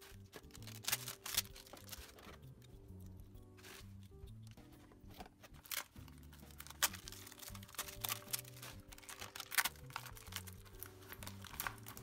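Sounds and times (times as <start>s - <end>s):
tape and plastic crinkling and tearing: 0.0s - 2.7s, 3.6s - 12.0s
soft background music: 0.0s - 12.0s.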